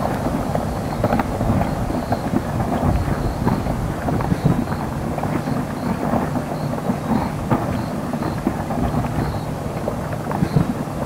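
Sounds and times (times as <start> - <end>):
rockfall rumble: 0.0 - 11.0.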